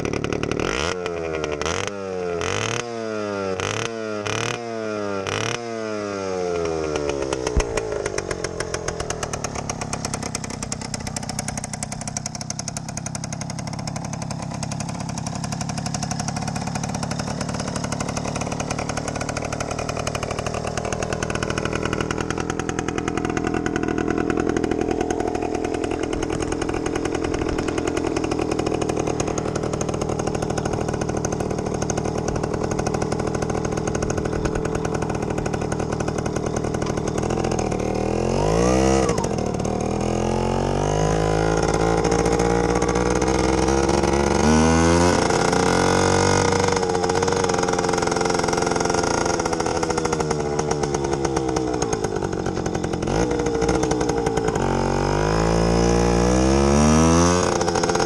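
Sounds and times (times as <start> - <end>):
two-stroke engine idling: 0.0 - 58.0.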